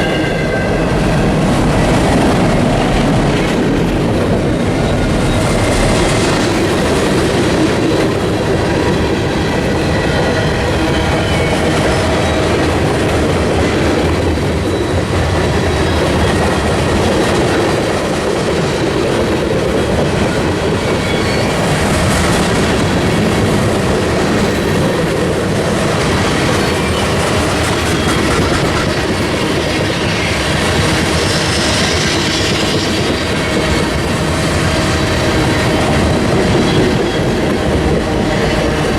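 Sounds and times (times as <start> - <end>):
train wheels rushing on rail: 0.0 - 38.9.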